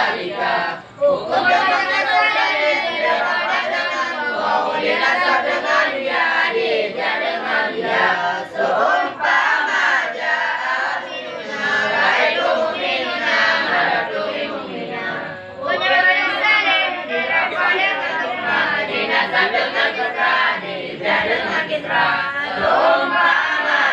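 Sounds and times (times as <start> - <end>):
young men chanting in unison: 0.0 - 23.9.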